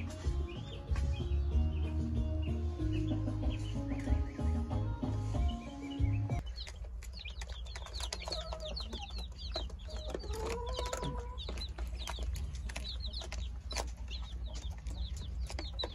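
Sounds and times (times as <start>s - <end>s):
baby chicks peeping: 0.0s - 15.9s.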